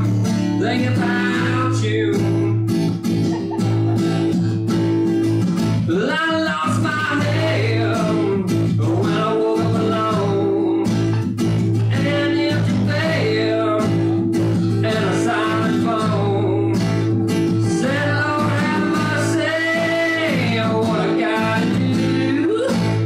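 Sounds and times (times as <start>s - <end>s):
man singing: 0.0s - 4.0s, 5.7s - 23.0s
strummed acoustic guitar: 0.0s - 23.0s.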